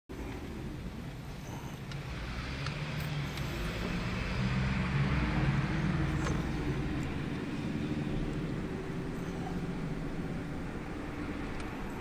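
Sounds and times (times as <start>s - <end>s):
car engine: 0.1s - 12.0s.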